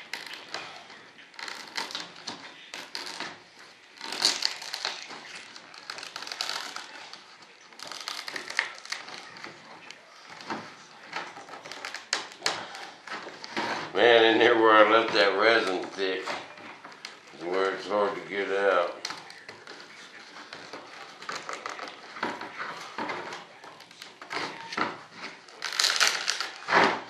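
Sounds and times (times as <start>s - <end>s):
plastic film crinkling: 0.0s - 27.0s.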